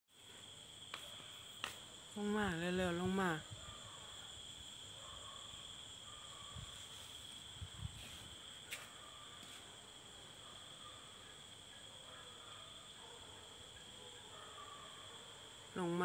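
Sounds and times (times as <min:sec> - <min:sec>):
night insects chirring: 0:00.1 - 0:16.0.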